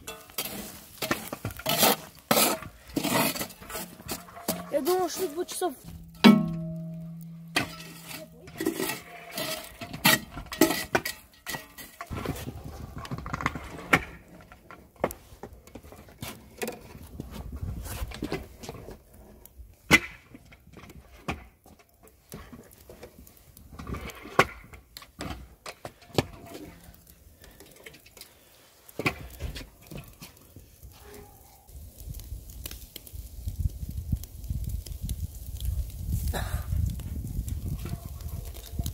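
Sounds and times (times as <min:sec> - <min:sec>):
metal poker raking charcoal: 0:00.0 - 0:38.9.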